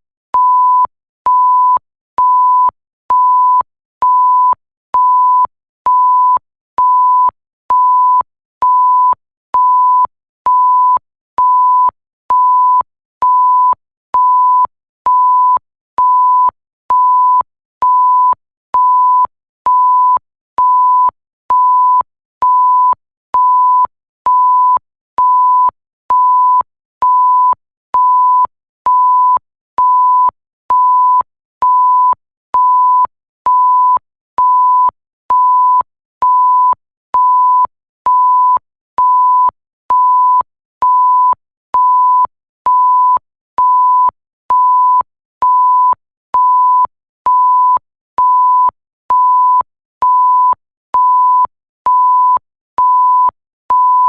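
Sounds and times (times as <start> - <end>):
short censor bleeps: 0.4 - 54.0.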